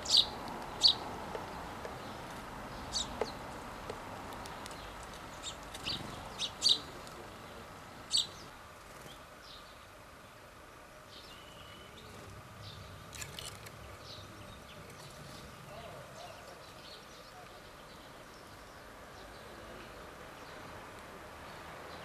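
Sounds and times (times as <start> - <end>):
sparrows chirping: 0.0 - 22.0.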